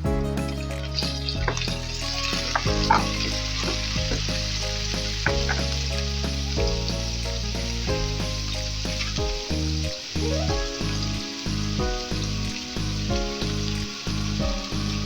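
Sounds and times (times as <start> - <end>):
instrumental background music: 0.0 - 15.0
food sizzling in a frying pan: 1.5 - 15.0.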